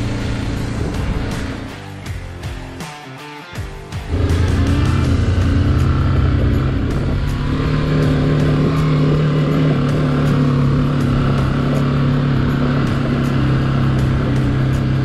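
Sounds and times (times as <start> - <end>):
motorcycle engine running: 0.0 - 2.8, 4.0 - 15.0.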